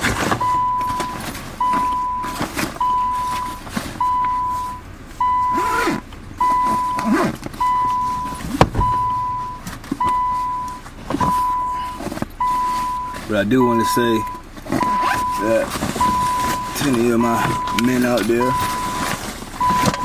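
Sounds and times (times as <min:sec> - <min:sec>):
car warning chime dinging: 0:00.3 - 0:20.0.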